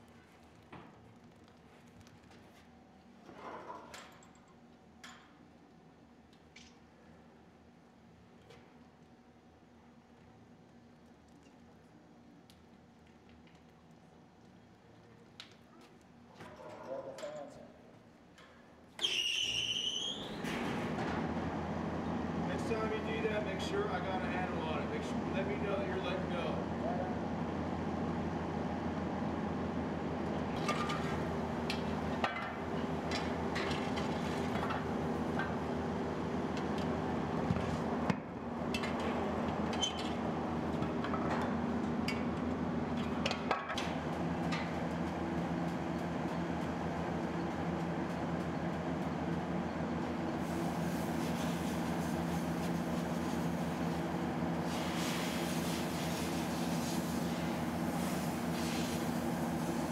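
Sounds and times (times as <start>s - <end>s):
low drone of foundry machinery: 0.0s - 59.9s.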